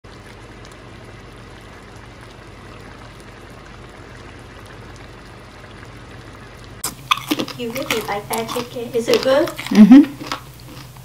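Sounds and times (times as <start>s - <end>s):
stew bubbling: 0.1s - 11.0s.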